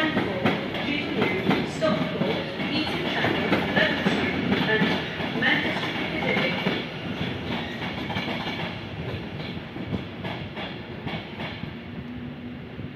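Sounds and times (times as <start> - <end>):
trains running on tracks: 0.0 - 12.9.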